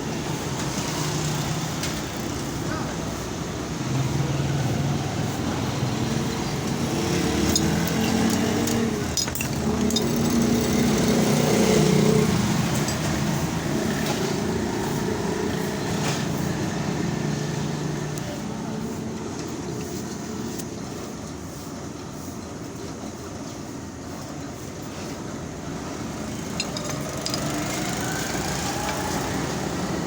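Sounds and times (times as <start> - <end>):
vehicle engines running: 0.0 - 21.8, 24.8 - 30.0
traffic drone: 0.0 - 30.0.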